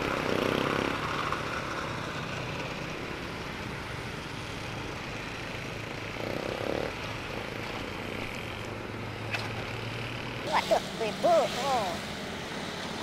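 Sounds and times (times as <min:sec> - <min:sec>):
slow traffic engines humming: 0:00.0 - 0:13.0.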